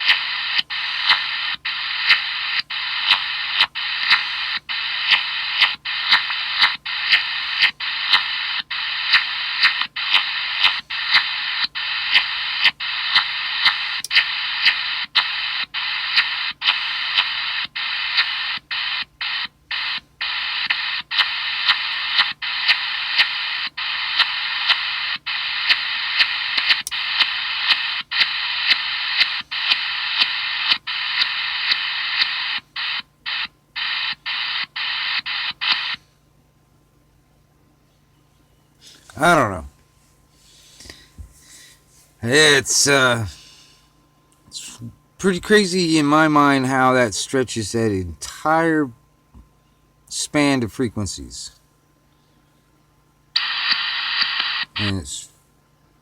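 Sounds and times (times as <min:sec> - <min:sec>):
radio hiss with pulsed clicks: 0:00.0 - 0:36.2, 0:38.7 - 0:43.4, 0:44.2 - 0:56.0.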